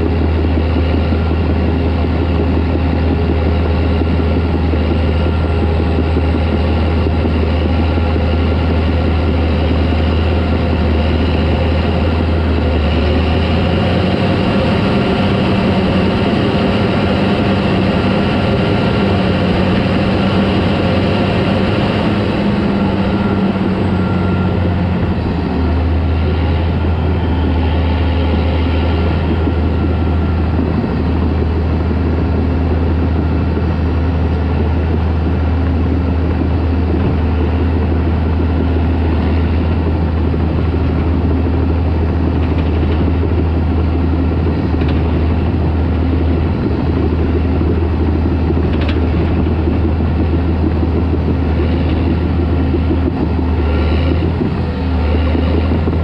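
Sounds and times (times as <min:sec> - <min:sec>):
crawler tractor diesel engine: 0:00.0 - 0:56.0.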